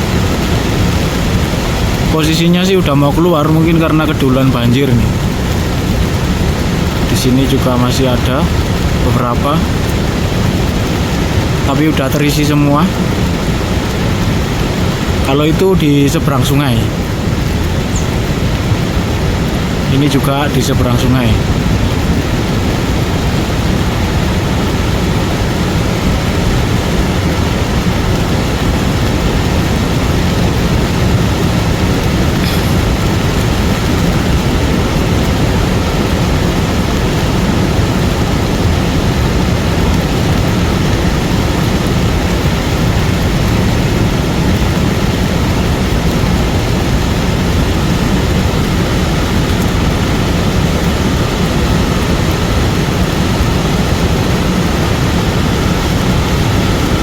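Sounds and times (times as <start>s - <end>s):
mudflow rushing with deep roar: 0.0s - 57.0s.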